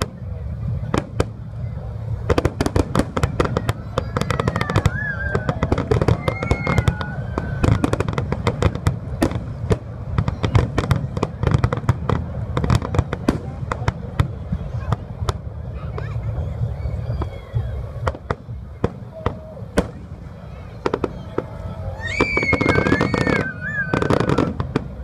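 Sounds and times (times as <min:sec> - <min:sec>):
continuous low rumble: 0:00.0 - 0:25.0.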